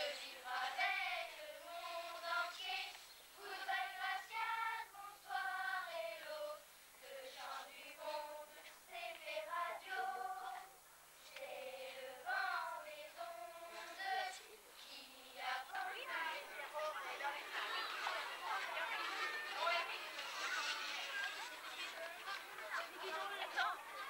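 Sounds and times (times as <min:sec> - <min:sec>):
children's choir singing: 0:00.0 - 0:24.0.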